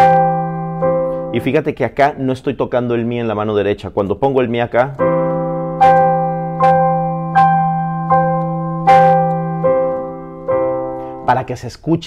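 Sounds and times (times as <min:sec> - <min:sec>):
digital piano chords: 0:00.0 - 0:12.0.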